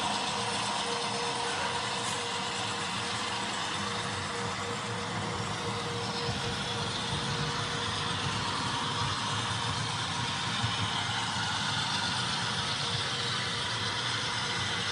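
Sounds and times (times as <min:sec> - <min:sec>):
model train running: 0:00.0 - 0:14.9.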